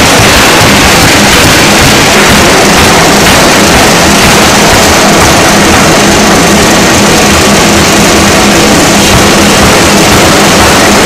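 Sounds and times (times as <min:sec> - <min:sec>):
low hum: 0:00.0 - 0:11.0
pneumatic forging hammer pounding: 0:00.0 - 0:11.0.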